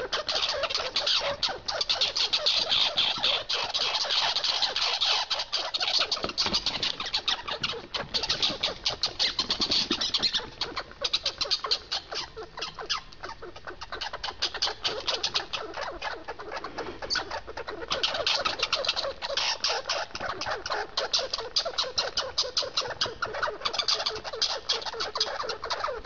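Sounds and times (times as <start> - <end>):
squirrel chattering: 0.0 - 26.0.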